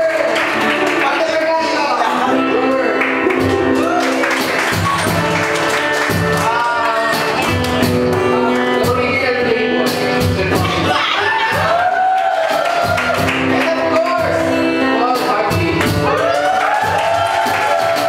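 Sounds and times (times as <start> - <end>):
bass line: 0.0 - 18.0
live band playing: 0.0 - 18.0
person singing: 2.0 - 12.1, 13.4 - 18.0.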